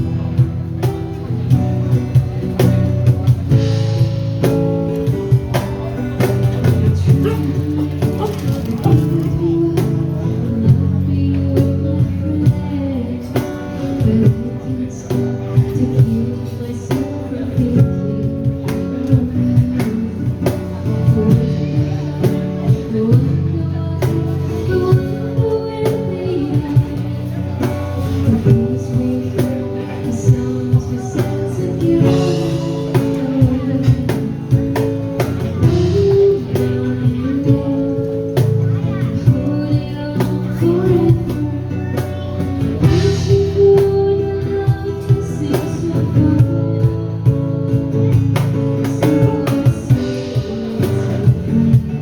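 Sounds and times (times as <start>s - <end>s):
drums: 0.0s - 52.0s
guitar: 0.0s - 52.0s
person singing: 6.8s - 52.0s.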